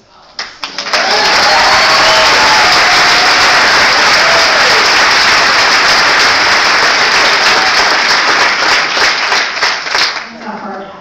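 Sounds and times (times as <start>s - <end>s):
crowd applauding: 0.4s - 10.4s.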